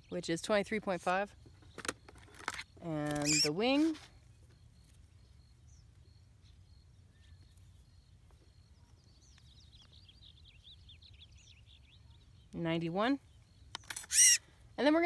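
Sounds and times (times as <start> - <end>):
high bird chirps: 1.6 - 15.0.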